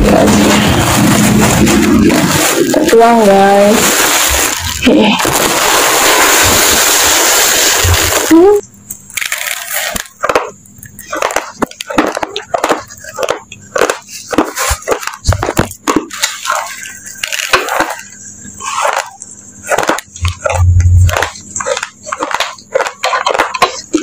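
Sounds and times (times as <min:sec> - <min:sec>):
raw rice crunching when chewed: 0:00.0 - 0:08.3, 0:09.2 - 0:24.0.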